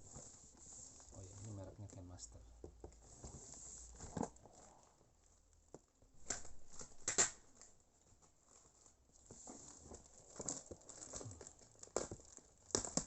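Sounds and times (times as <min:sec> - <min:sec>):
packaging rustling and scraping: 0:00.0 - 0:02.0, 0:02.9 - 0:05.0, 0:06.2 - 0:13.0.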